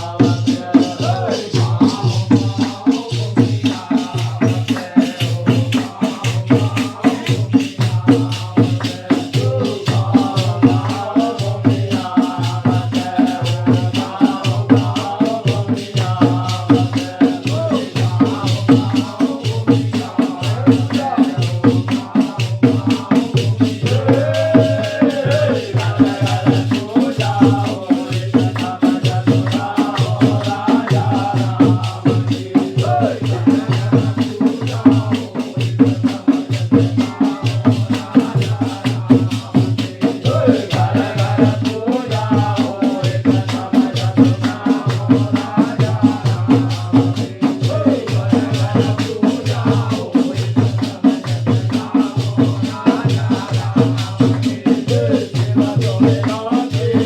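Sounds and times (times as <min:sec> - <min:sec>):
rattling jingling percussion: 0:00.0 - 0:57.0
repeating drum beat: 0:00.0 - 0:57.0
voices singing folk song: 0:00.0 - 0:57.0.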